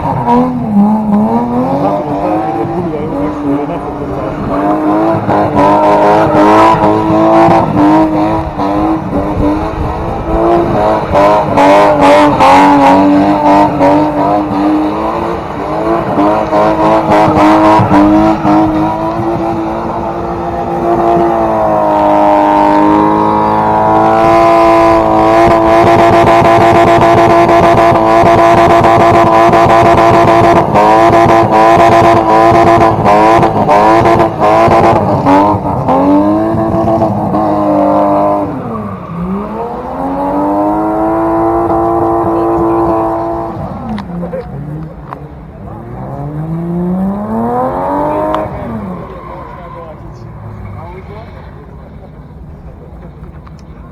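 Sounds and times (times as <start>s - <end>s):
car engine at high revs: 0.0s - 53.9s.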